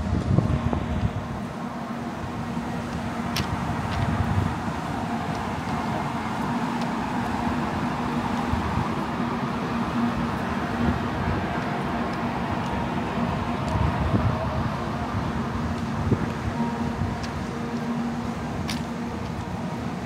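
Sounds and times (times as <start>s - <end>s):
train hum: 0.0s - 20.0s
train rumble: 0.0s - 20.0s.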